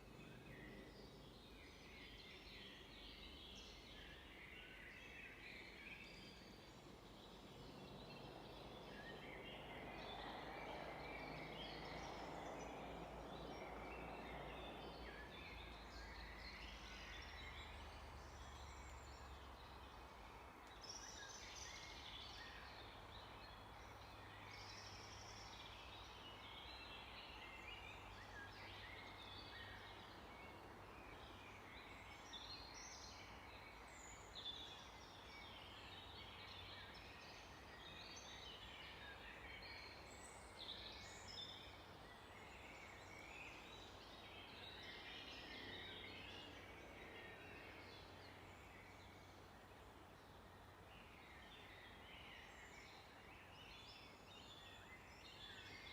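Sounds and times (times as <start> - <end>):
small birds singing and chirping: 0.0 - 55.9.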